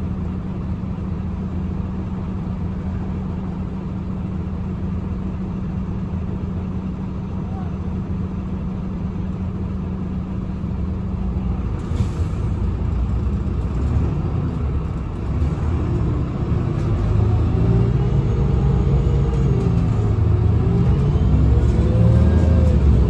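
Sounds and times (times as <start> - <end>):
bus diesel engine: 0.0 - 23.0.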